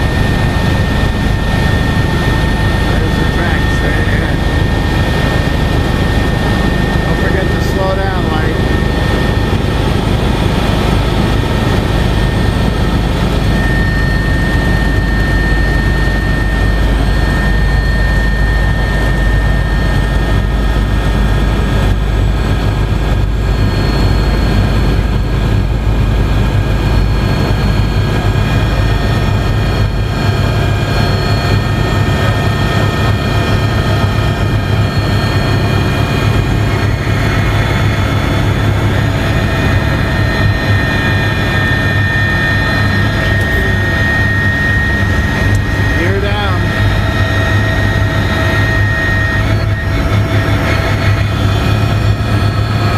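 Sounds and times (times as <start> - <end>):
helicopter rotor drone: 0.0 - 52.9
turbine whine: 0.0 - 52.9.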